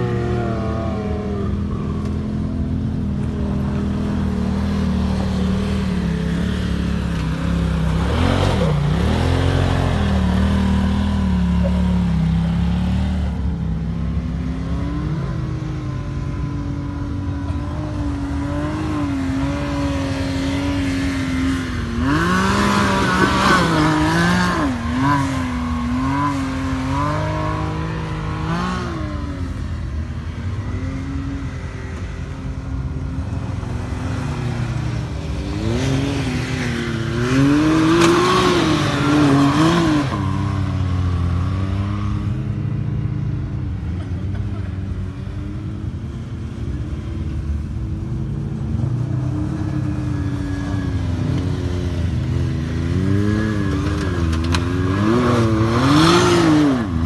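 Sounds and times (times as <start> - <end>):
utility vehicle engines revving: 0.0 - 57.0.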